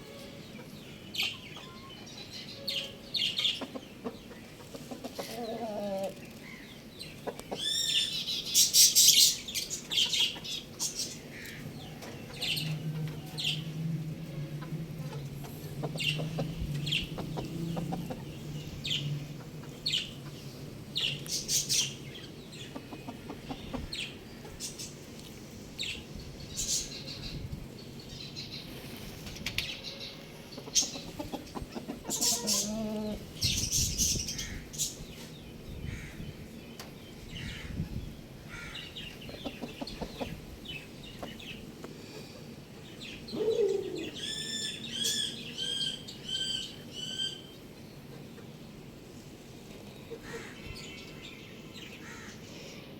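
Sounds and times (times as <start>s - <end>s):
chickens clucking: 0.3s - 26.0s, 28.6s - 37.8s, 38.9s - 48.9s.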